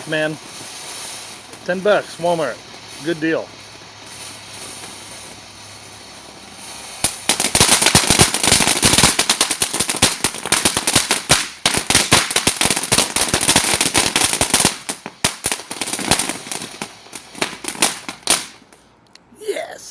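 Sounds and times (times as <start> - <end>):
firework crackling pops: 0.0 - 18.9
firework fountain hissing: 0.0 - 18.9.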